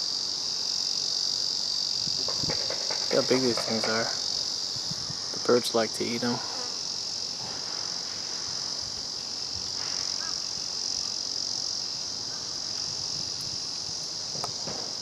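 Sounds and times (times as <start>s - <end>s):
cicada buzzing: 0.0s - 15.0s.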